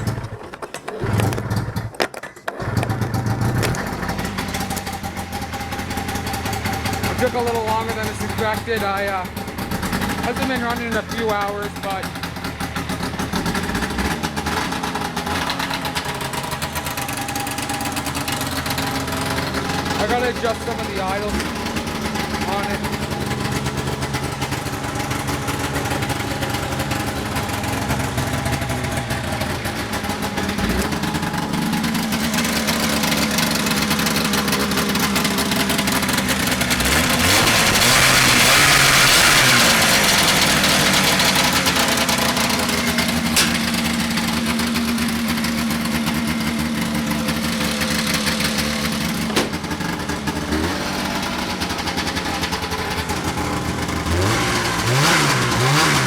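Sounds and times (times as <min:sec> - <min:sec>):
snowmobile engine idling: 0:00.0 - 0:56.0.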